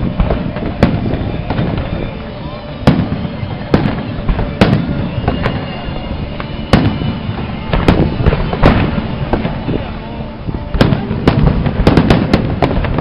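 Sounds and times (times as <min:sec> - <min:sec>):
firework bangs and cracks: 0:00.0 - 0:13.0
low rumble of firework bursts: 0:00.0 - 0:13.0.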